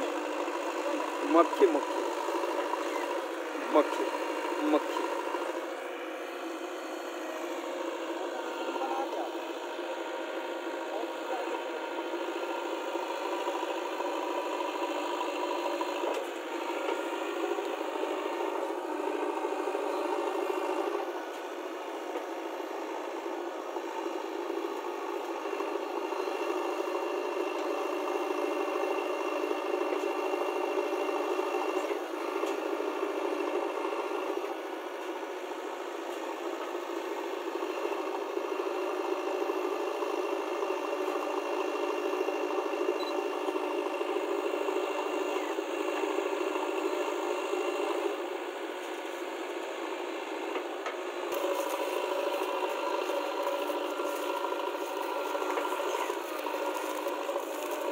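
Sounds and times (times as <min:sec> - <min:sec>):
diesel engine under hydraulic load: 0:00.0 - 0:57.9.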